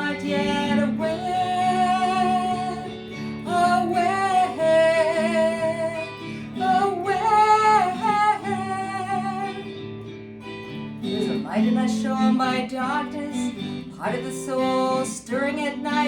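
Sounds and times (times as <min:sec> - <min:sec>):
woman singing: 0:00.0 - 0:10.0, 0:11.0 - 0:16.0
acoustic guitar: 0:00.0 - 0:16.0.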